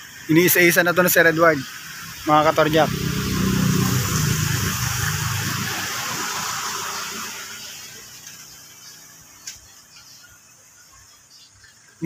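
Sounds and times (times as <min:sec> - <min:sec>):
rushing water-like hiss: 0:00.0 - 0:12.0.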